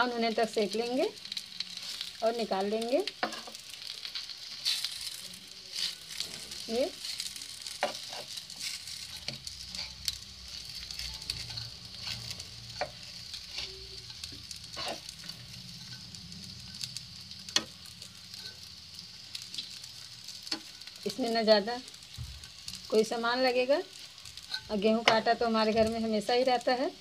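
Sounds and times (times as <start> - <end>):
oil sizzling with crackling pops: 0.0 - 27.0.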